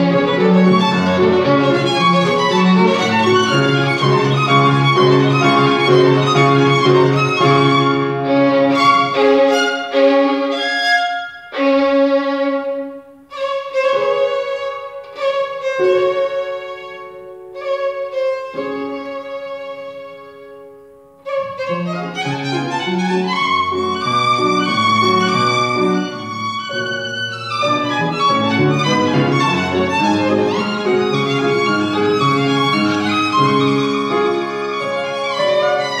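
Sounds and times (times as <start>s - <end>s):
grand piano: 0.0s - 36.0s
violin: 0.0s - 36.0s.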